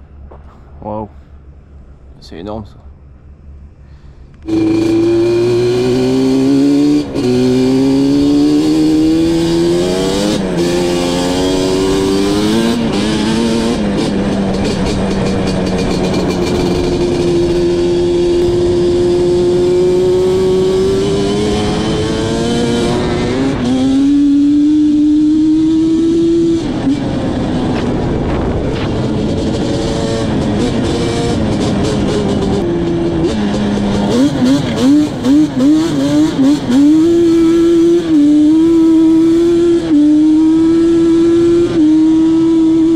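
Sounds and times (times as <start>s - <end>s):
quad engine revving through gears: 4.4s - 42.9s.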